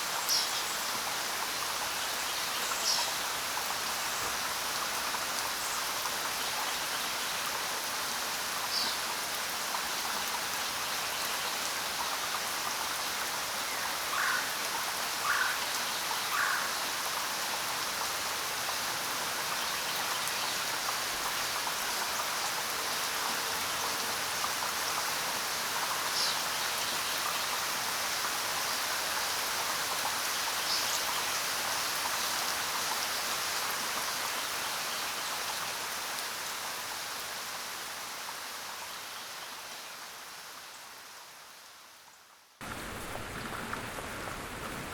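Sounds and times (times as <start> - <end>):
steady rainfall hiss: 0.0 - 44.9.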